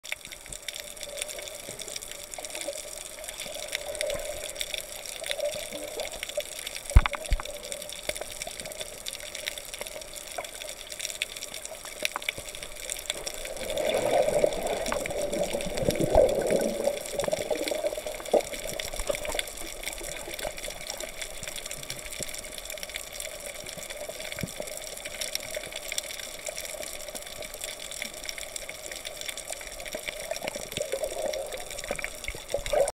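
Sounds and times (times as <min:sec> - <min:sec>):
muffled underwater rush: 0:00.4 - 0:25.9, 0:29.1 - 0:32.9.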